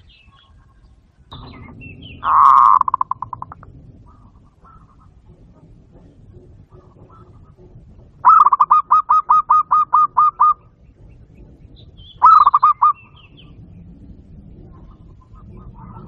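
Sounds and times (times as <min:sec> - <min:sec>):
dove cooing: 0:02.2 - 0:16.0.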